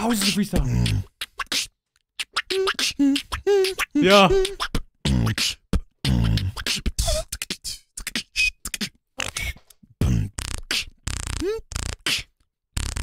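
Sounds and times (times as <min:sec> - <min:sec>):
person beatboxing: 0:00.0 - 0:13.0.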